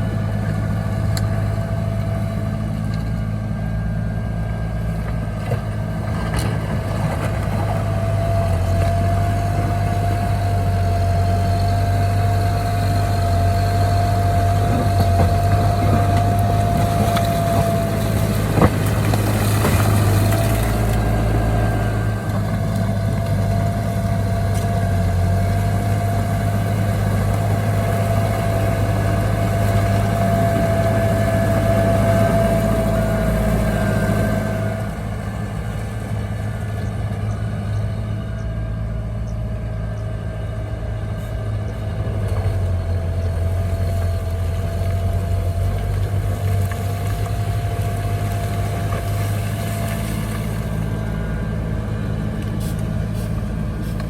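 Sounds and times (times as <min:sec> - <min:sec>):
earthmoving machine diesel engine: 0:00.0 - 0:54.0.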